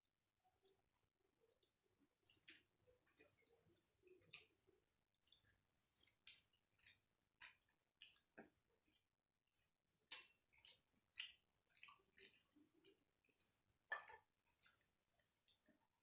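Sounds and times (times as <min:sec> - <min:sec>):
chewing and mouth smacks: 0:01.7 - 0:15.8.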